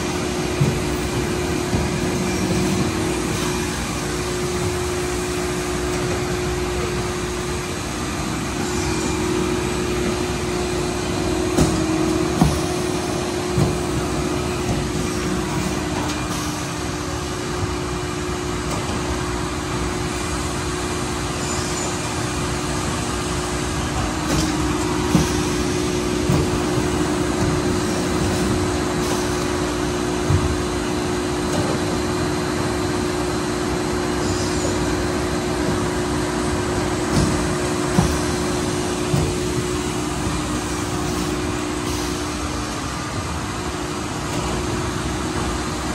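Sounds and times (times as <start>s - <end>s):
machine hum: 0.0s - 45.9s.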